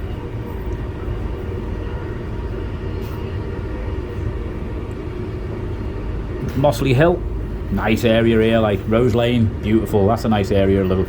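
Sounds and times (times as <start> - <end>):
faint steady hum: 0.0 - 11.0
train rumble inside carriage: 0.0 - 11.0.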